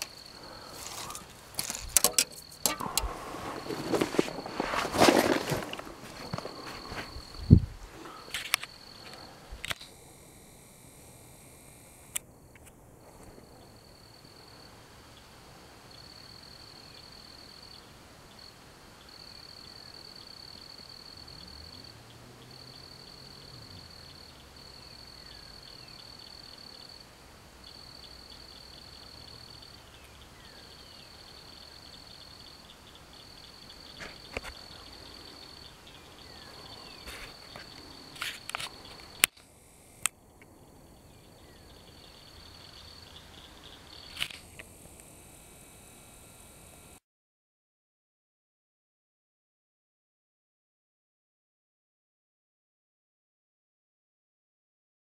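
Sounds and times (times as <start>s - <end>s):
faint outdoor ambience: 0.0s - 47.0s
insects trilling: 0.0s - 47.0s.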